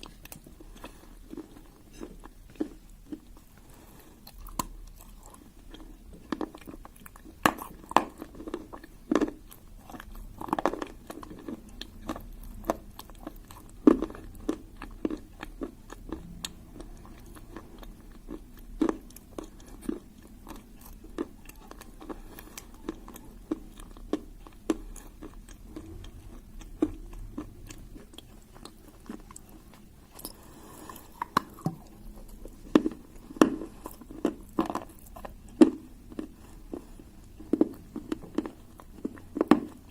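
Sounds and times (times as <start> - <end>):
person chewing dry clay: 0.0 - 39.9.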